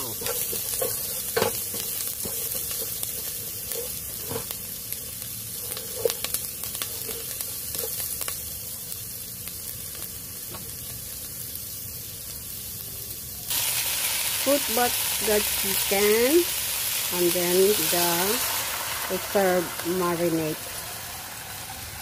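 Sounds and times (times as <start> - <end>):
onions and garlic sizzling: 0.0 - 22.0.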